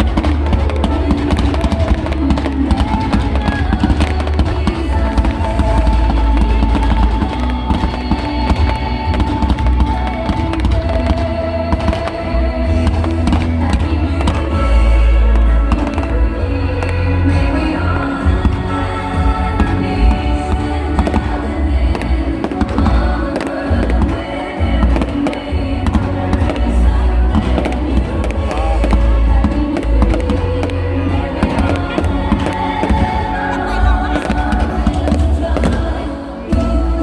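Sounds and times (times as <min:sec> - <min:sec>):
fireworks bangs and crackles: 0:00.0 - 0:37.0
loud music with heavy bass: 0:00.0 - 0:37.0.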